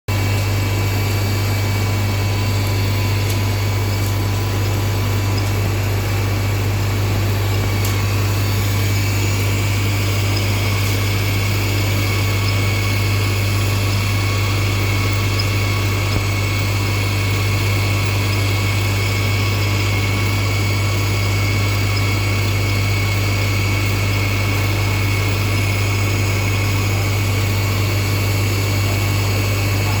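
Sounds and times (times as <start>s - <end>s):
electric motor hum: 0.1s - 30.0s
thin steady whine: 0.1s - 30.0s.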